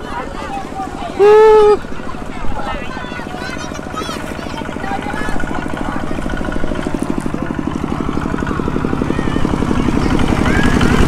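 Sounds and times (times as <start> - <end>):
small vehicle engine chugging: 0.0 - 11.0.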